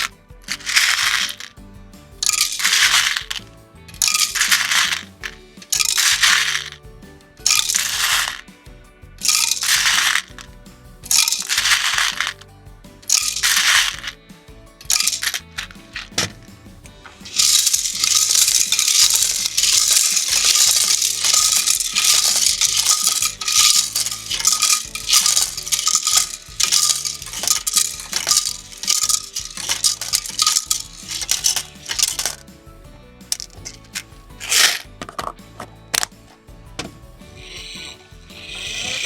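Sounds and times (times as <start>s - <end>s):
small metal parts clinking: 0.0s - 1.6s, 2.2s - 6.8s, 7.4s - 8.4s, 9.2s - 10.5s, 11.1s - 12.4s, 13.0s - 14.2s, 14.8s - 16.5s, 17.1s - 32.5s, 33.3s - 36.2s, 37.4s - 39.0s.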